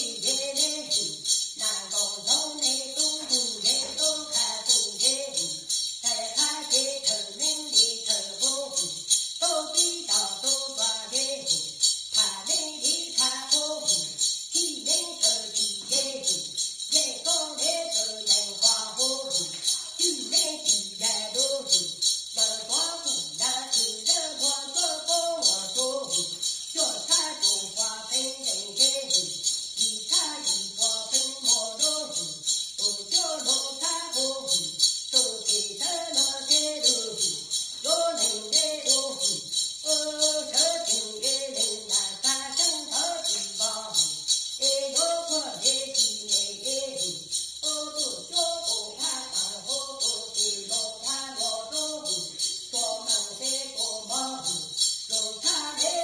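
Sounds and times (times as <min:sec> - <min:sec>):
person chanting: 0:00.0 - 0:54.6
metal jingle rattle shaken: 0:00.0 - 0:56.0.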